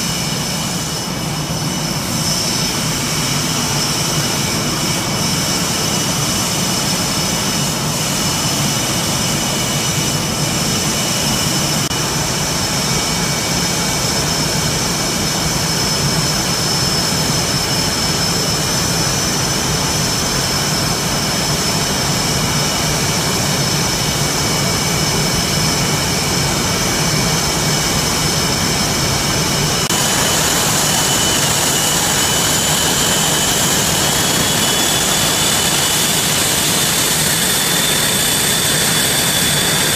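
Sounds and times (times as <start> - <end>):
jet engine roar: 0.0 - 39.9
turbine whine: 0.0 - 39.9.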